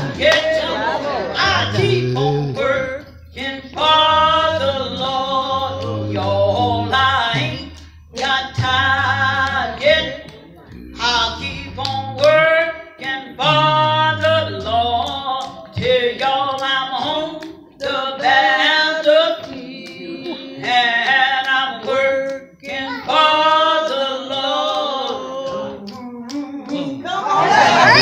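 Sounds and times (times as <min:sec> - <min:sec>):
woman singing unaccompanied: 0:00.0 - 0:28.0.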